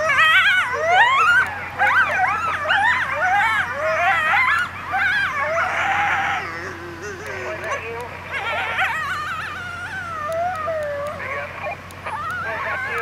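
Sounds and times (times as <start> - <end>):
coyote howling and yipping: 0.0 - 13.0.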